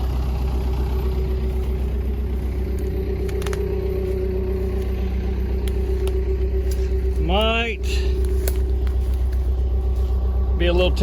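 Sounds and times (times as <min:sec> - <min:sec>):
skid steer engine drone: 0:00.0 - 0:11.0
steady whine: 0:00.0 - 0:11.0.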